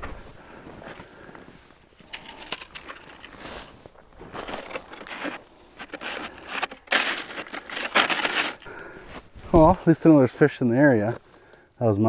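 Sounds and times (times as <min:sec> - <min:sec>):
snow and ice crunching: 0:00.0 - 0:11.6.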